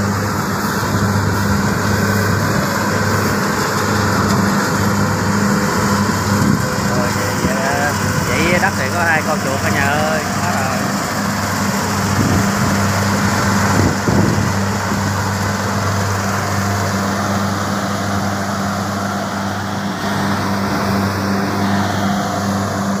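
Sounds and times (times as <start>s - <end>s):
combine harvester engine hum: 0.0s - 23.0s.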